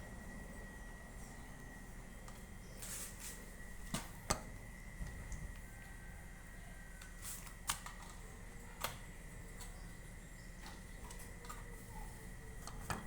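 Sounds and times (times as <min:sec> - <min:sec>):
ceiling fan whining and humming: 0:00.0 - 0:13.0.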